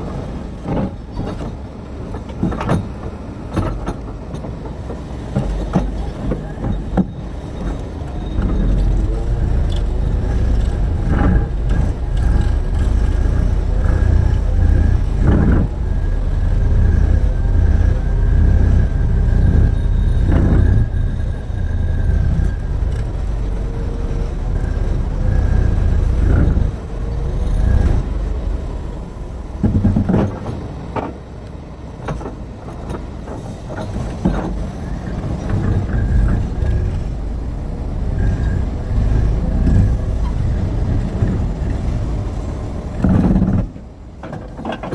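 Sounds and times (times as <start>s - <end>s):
excavator diesel engine rumbling: 0.0s - 44.9s.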